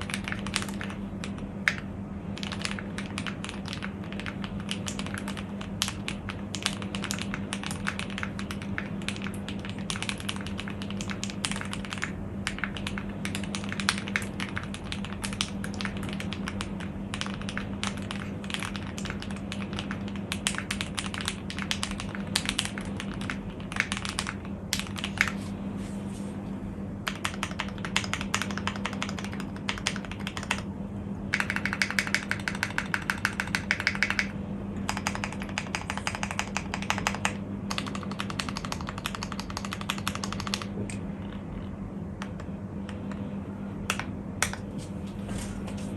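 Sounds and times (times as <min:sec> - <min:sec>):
mechanical keyboard typing: 0:00.0 - 0:25.4, 0:27.0 - 0:30.7, 0:31.3 - 0:43.0
steady low hum: 0:00.0 - 0:45.9.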